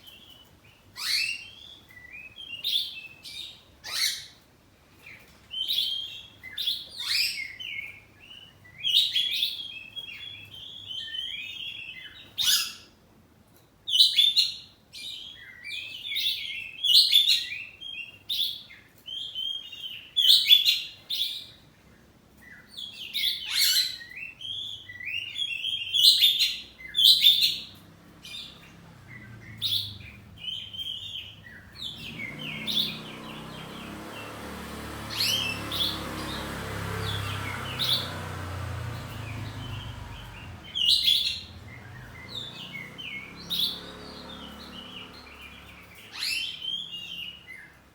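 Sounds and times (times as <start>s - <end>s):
bird singing: 0.0s - 13.0s, 13.9s - 47.9s.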